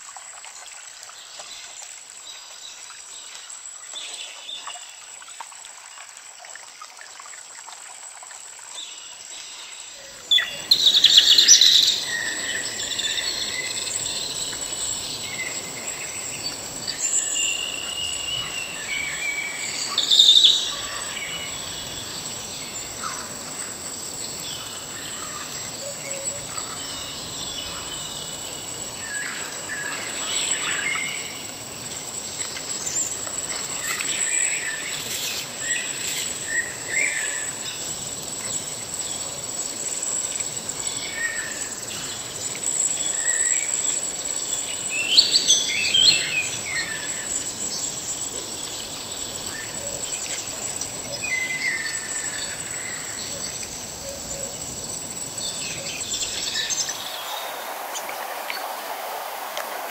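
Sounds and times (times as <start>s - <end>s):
insect drone: 0.0s - 59.9s
rush of falling water: 0.0s - 59.9s.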